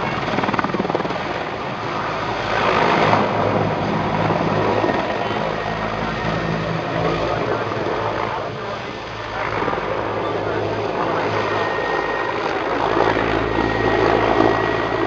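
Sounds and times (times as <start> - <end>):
helicopter engines rushing: 0.0 - 15.0
helicopter rotor beat: 0.0 - 15.0.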